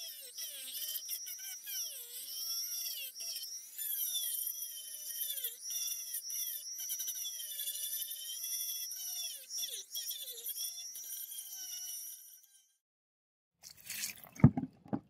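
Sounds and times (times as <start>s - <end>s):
rotary tool motor whine: 0.0s - 12.8s.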